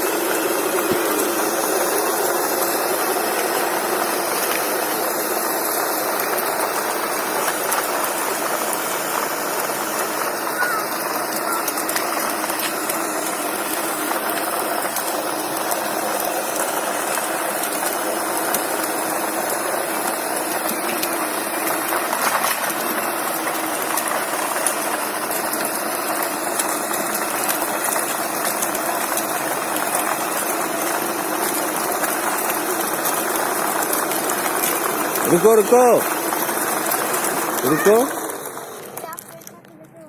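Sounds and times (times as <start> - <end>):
rapid clicking: 0.0 - 39.9
machine running: 0.0 - 40.0.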